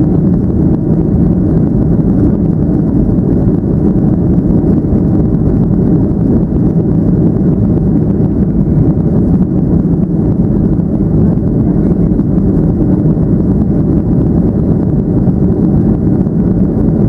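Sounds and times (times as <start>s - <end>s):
jet engines droning in cabin: 0.0s - 17.0s.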